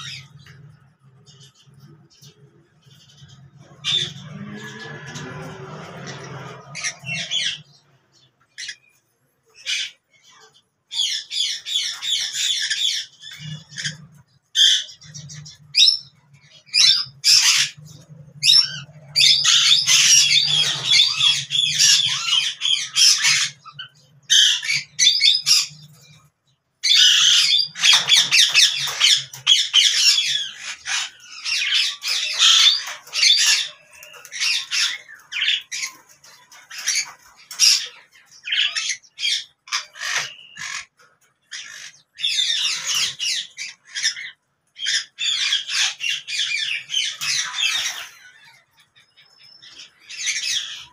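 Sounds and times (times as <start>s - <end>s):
parakeets squawking: 0.0s - 50.9s.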